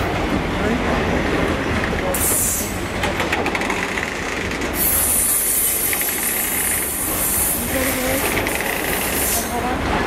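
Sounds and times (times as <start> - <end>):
freight train rumbling past: 0.0 - 10.0.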